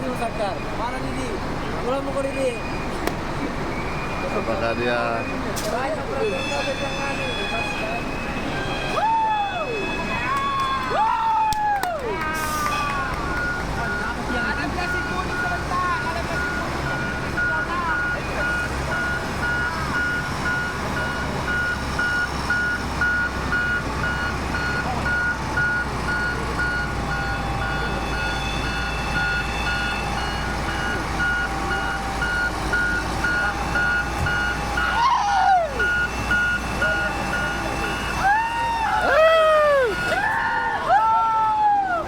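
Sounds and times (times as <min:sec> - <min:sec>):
diesel engine running: 0:00.0 - 0:09.9, 0:10.9 - 0:42.0
voices calling out: 0:00.0 - 0:42.0
reversing alarm beeping: 0:03.6 - 0:10.2, 0:12.4 - 0:40.4.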